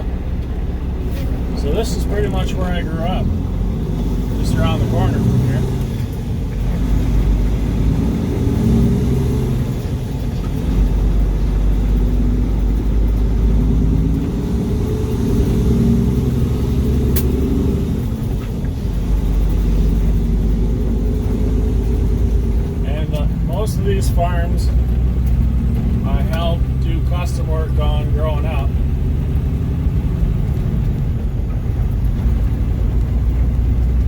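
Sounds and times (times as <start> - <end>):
truck diesel engine rumbling: 0.0 - 34.0.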